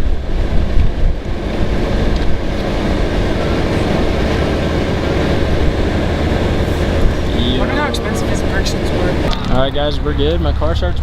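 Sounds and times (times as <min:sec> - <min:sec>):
wind noise: 0:00.0 - 0:10.1
car engine rumble: 0:00.0 - 0:11.0.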